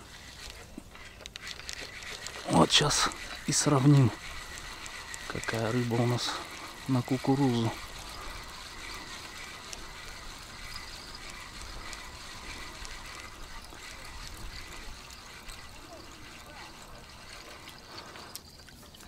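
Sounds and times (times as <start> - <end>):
water lapping: 0.0 - 19.0
wind: 0.0 - 19.0.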